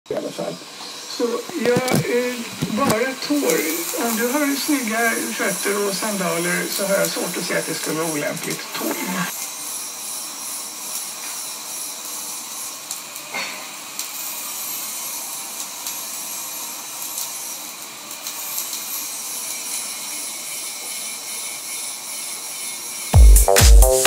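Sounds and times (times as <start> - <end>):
welding arc hissing crackle: 0.1 - 24.0.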